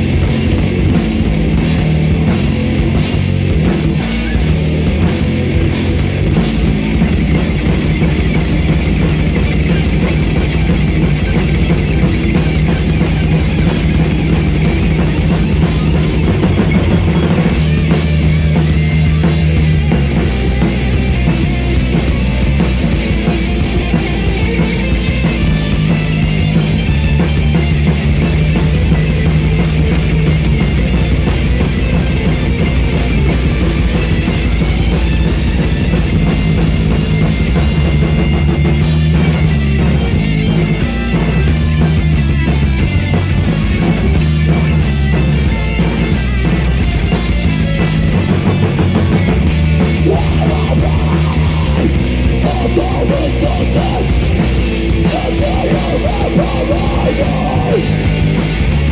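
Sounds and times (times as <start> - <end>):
heavy metal band playing live: 0.0 - 58.9.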